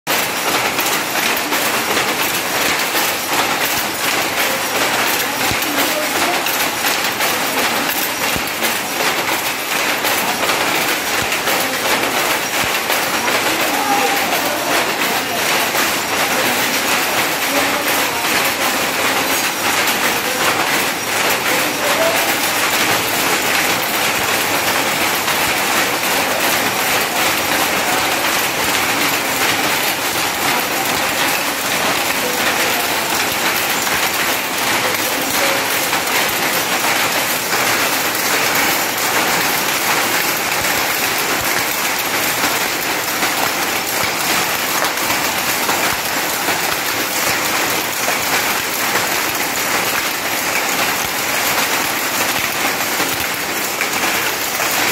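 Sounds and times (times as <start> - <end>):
power looms clattering: 0.1 - 54.9.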